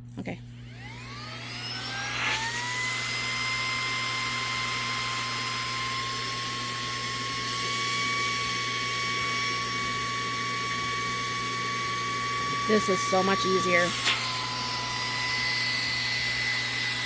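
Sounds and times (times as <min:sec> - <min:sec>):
air pump motor whine: 0:00.0 - 0:17.0.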